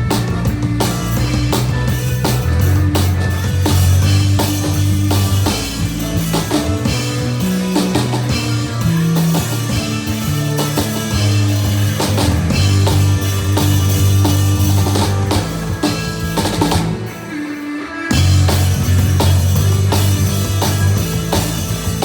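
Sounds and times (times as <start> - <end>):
bass notes: 0.0 - 17.4, 18.1 - 22.0
drum kit beating: 0.0 - 22.0
electric guitar: 0.0 - 22.0.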